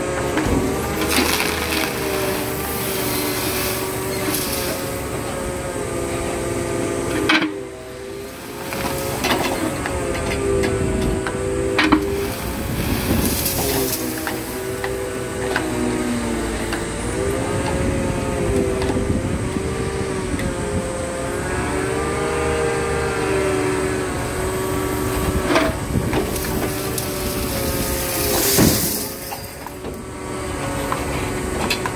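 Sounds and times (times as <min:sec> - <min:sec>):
engine and hydraulics whining: 0:00.0 - 0:31.9.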